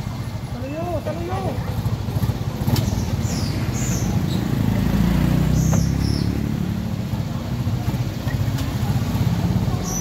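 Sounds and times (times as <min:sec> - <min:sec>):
cars passing slowly: 0:00.0 - 0:10.0.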